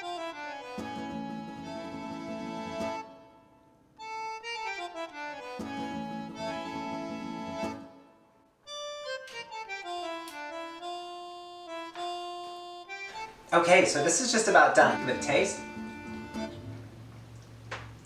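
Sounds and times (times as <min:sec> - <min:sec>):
lively accordion tune: 0:00.0 - 0:17.0.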